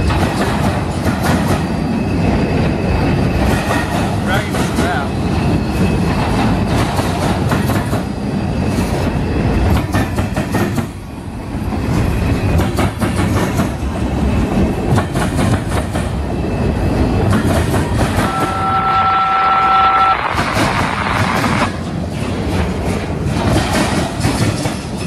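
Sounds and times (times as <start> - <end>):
train wheels clattering over rail joints: 0.0 - 19.0, 19.8 - 25.0.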